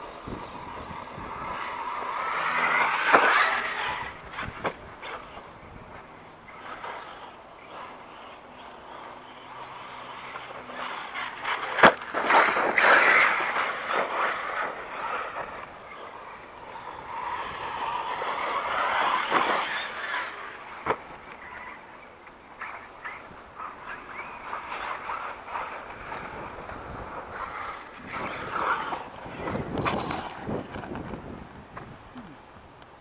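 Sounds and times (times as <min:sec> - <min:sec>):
electric motor whining: 0:00.0 - 0:31.3
tyres churning through sand: 0:00.0 - 0:32.4.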